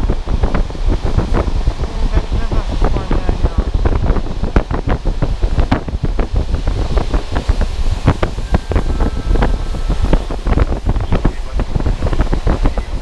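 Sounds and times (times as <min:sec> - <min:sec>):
train low rumble: 0:00.0 - 0:13.0
train rattling and knocking: 0:00.0 - 0:13.0.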